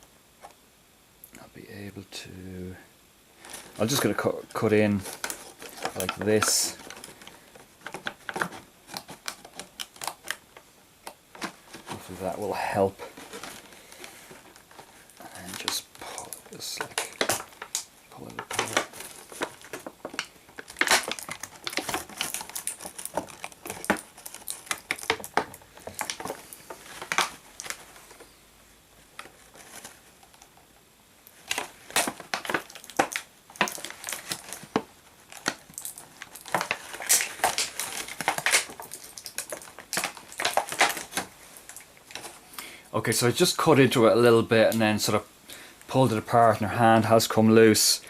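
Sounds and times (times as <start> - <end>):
plastic packaging crackling: 3.4 - 28.3, 29.0 - 45.2.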